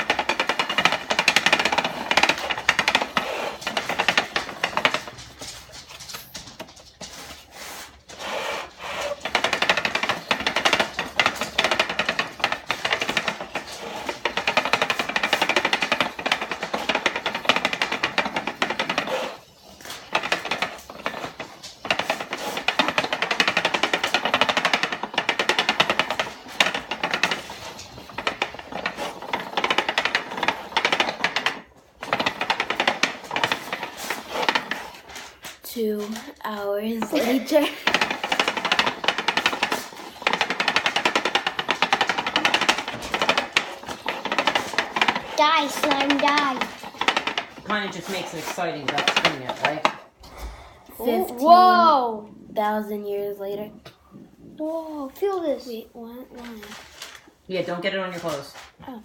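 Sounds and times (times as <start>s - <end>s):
hand-cranked spinner rattling: 0.0s - 50.2s.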